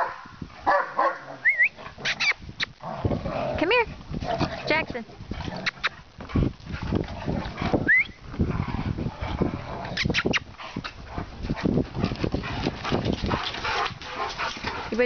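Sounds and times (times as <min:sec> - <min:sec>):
dogs growling: 0:01.0 - 0:15.0.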